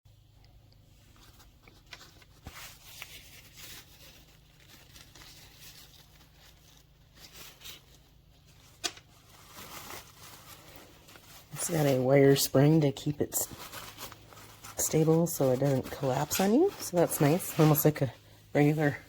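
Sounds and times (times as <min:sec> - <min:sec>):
fabric bonnet rustling: 0:00.9 - 0:19.0.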